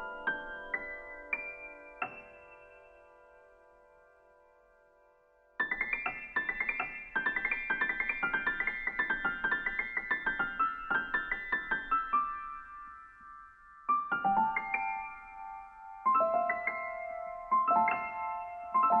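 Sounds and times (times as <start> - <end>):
piano notes: 0.0 - 4.5, 5.6 - 19.0.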